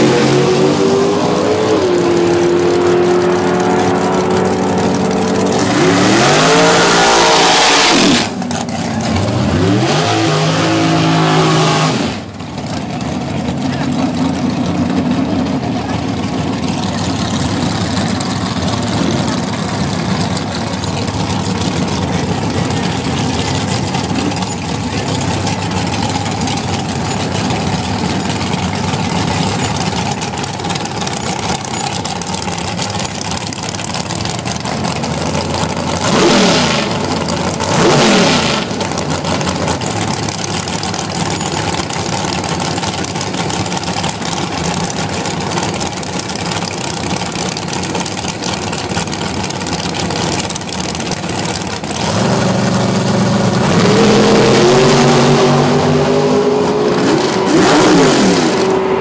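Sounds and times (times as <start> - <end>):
dragster engine idling and revving: 0.0 - 59.0.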